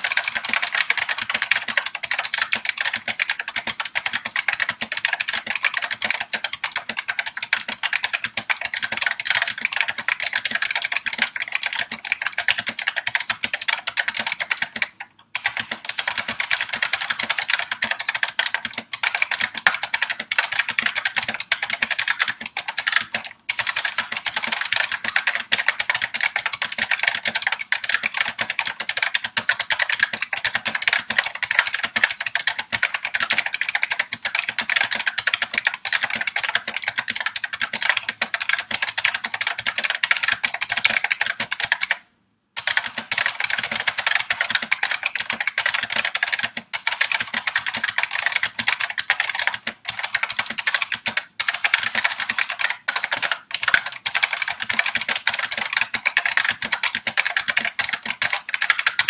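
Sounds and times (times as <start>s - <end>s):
keyboard key clicks: 0.0s - 42.0s, 42.6s - 59.0s.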